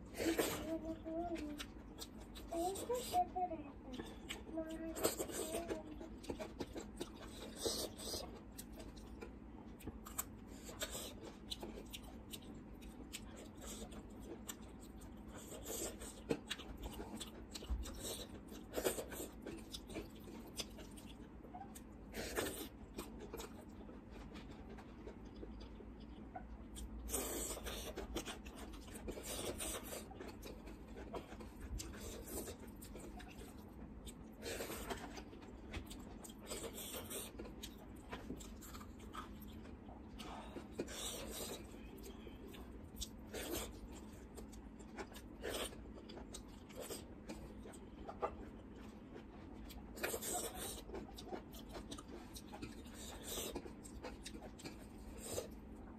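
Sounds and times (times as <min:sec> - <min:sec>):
wet chewing: 0:03.8 - 0:55.9.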